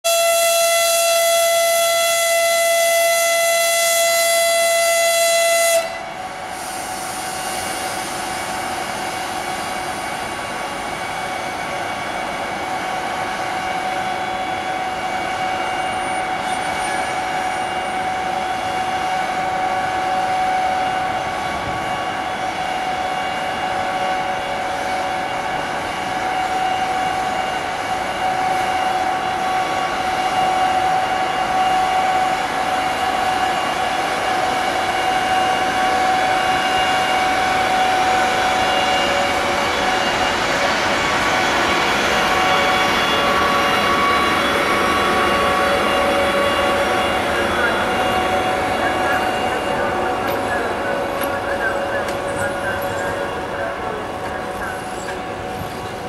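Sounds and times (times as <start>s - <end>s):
high-pitched locomotive horn: 0.0s - 6.9s, 13.5s - 55.6s
electric locomotive whine: 0.0s - 56.0s
train wheel noise: 5.8s - 56.0s.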